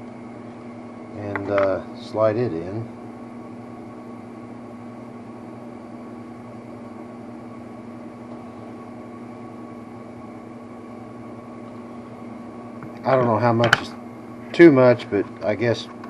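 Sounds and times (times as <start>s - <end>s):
mechanical hum with whine: 0.0s - 16.0s.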